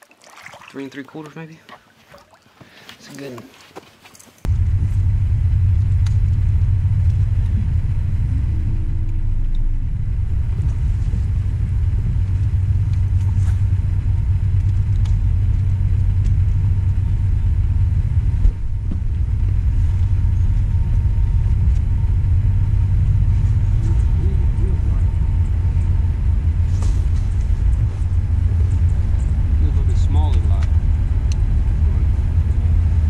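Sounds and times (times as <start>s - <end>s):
low rumble: 4.5s - 33.0s.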